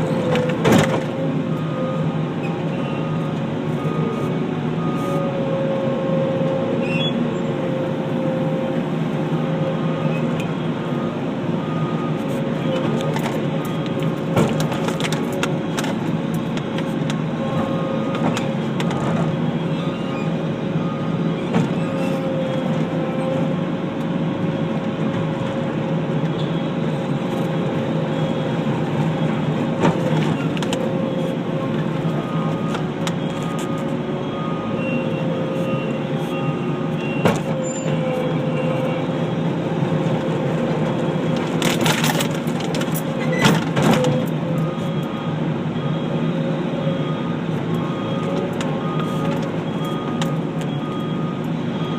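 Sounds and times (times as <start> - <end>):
loader engine running: 0.0 - 51.9.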